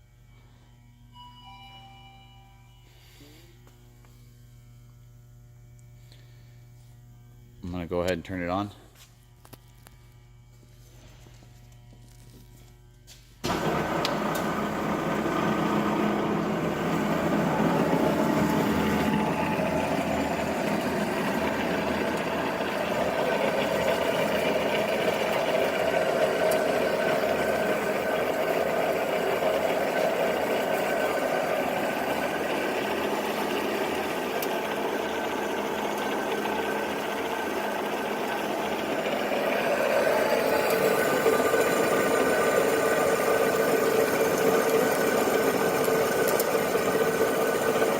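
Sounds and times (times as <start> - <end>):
band saw motor humming: 3.0 - 47.9.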